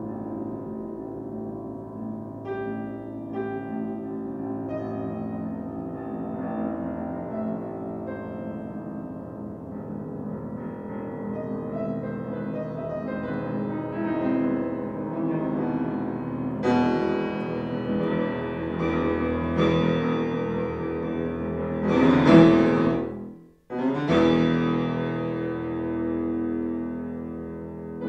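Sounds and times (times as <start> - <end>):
solo piano chords: 0.0 - 28.0.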